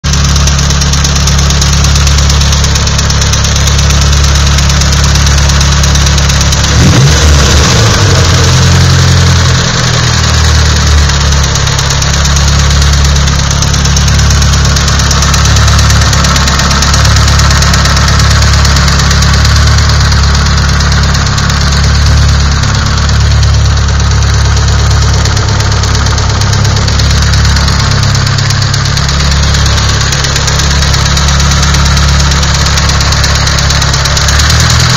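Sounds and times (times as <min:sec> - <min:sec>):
car engine idling with knocking: 0:00.0 - 0:34.9
engine revving: 0:00.1 - 0:34.9.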